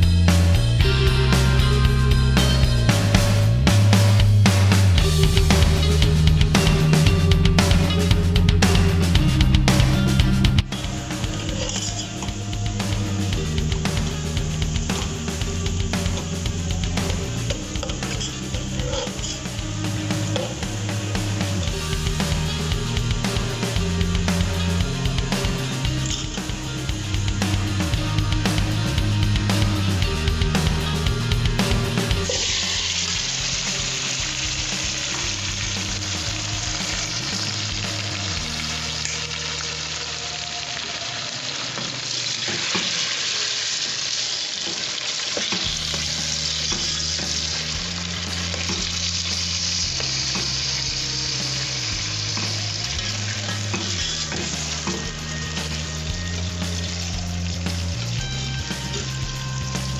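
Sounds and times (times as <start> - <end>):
potatoes sizzling in hot oil: 8.7 - 59.9.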